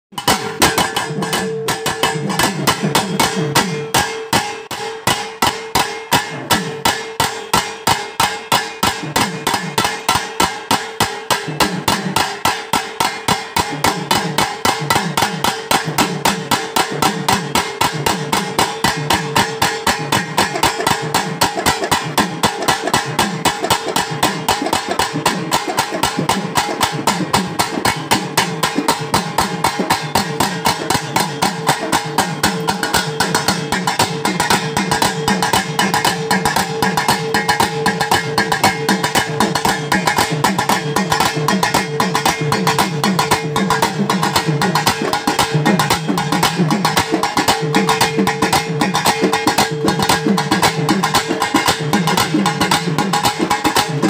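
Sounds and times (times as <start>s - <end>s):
drums struck with sticks: 0.1s - 54.0s.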